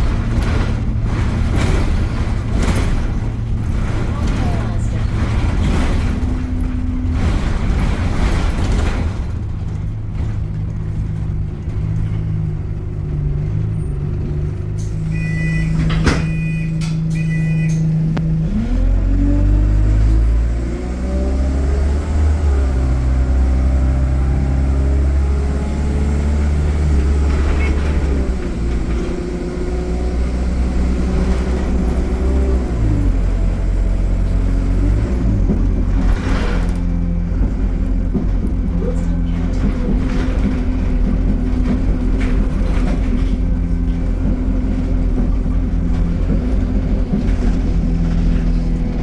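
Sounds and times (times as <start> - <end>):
bus diesel engine: 0.0 - 49.0.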